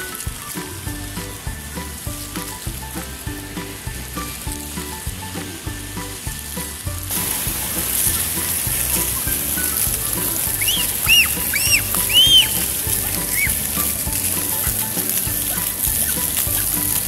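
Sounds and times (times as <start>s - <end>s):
fountain water jets hissing: 0.0s - 17.0s
music with steady beat: 0.0s - 17.0s.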